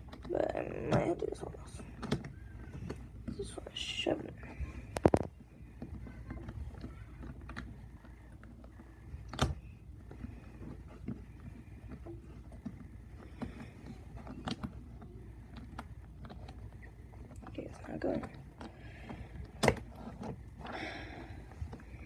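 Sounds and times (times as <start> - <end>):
plastic puzzle clicks and knocks: 0.0 - 3.6, 4.3 - 22.0.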